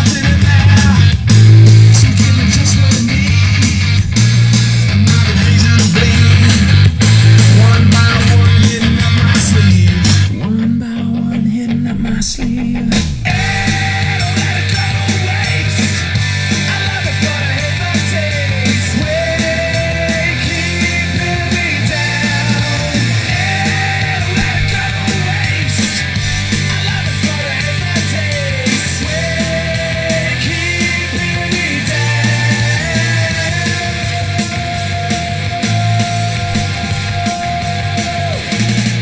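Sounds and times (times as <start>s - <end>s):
instrumental rock music: 0.0s - 39.0s.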